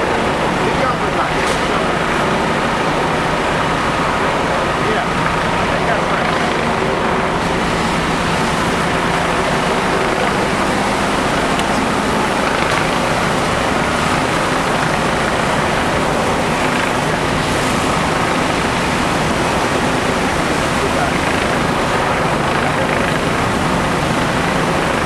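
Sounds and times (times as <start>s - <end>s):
continuous rushing noise: 0.0s - 25.0s
fire truck engines droning: 0.0s - 25.0s.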